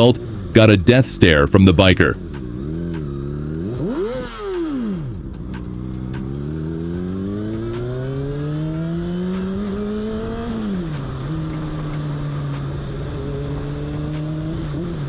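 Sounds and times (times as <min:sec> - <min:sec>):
motorcycle engine revving: 0:02.2 - 0:15.0.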